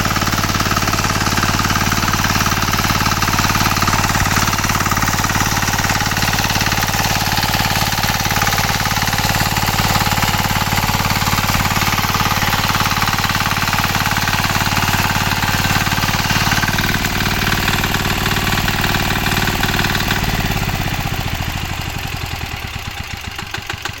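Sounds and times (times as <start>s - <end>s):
tiller engine running: 0.0s - 24.0s.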